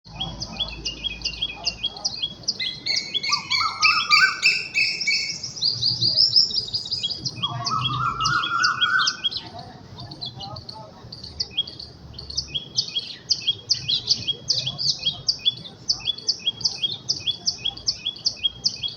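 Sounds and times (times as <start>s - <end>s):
birds chirping and singing: 0.1s - 18.9s.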